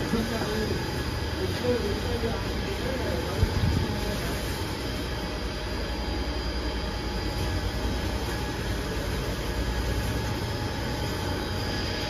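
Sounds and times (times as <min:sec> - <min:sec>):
faint steady whine: 0:00.0 - 0:12.0
shredder low mechanical rumble: 0:00.0 - 0:12.0.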